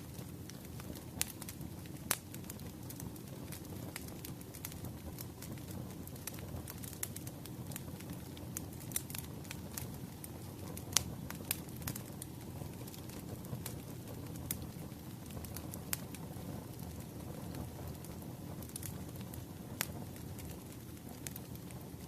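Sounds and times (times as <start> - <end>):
fire crackling and popping: 0.0 - 22.0
firewood burning: 0.0 - 22.0.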